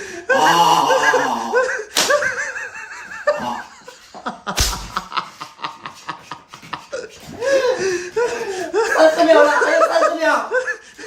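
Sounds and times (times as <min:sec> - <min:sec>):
people snickering and laughing: 0:00.4 - 0:11.0.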